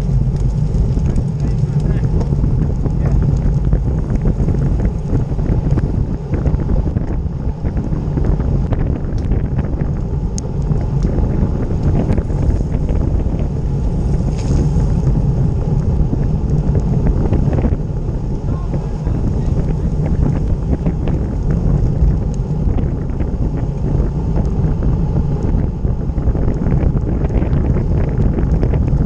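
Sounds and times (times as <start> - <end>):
tyre noise on tarmac: 0.0 - 29.0
wind buffeting microphone: 0.0 - 29.0.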